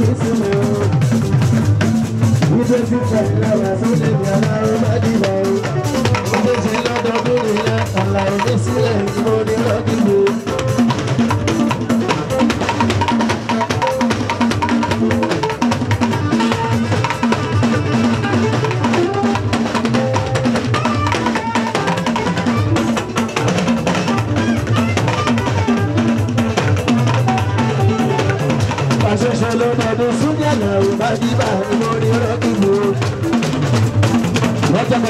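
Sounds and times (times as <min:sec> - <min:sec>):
live band playing upbeat music: 0:00.0 - 0:35.0
steady drum beat: 0:00.0 - 0:35.0.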